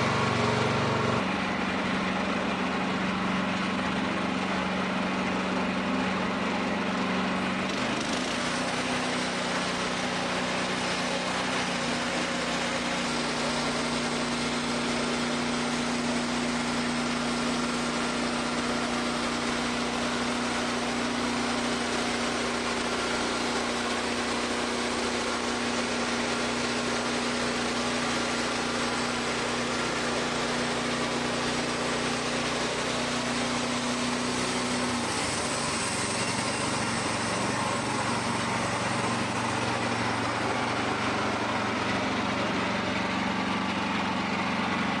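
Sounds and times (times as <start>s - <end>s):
sawmill engine running: 0.0s - 45.0s.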